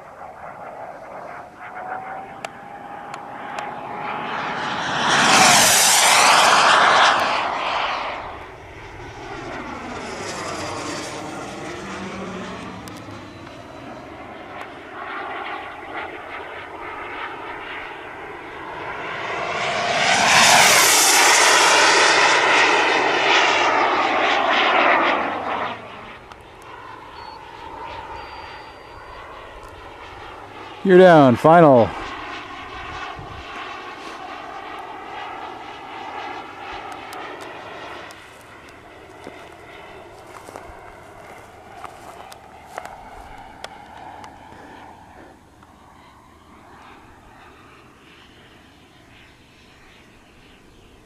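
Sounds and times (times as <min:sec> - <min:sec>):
model jet turbine whine: 0:00.0 - 0:51.0.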